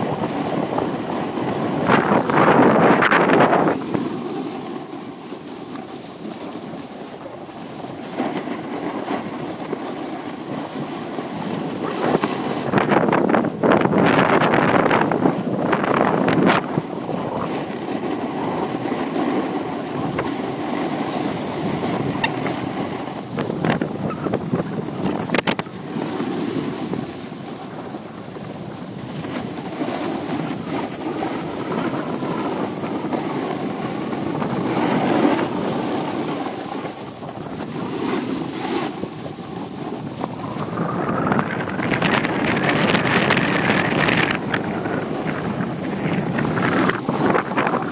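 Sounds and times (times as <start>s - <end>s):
snowboard scraping over snow: 0.0s - 47.9s
wind rushing over microphone: 0.0s - 47.9s.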